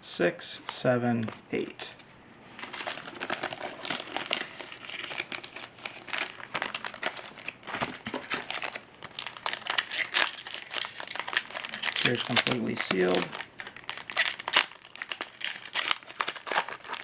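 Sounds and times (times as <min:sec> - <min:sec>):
foil wrapper crinkling: 0:02.5 - 0:17.0.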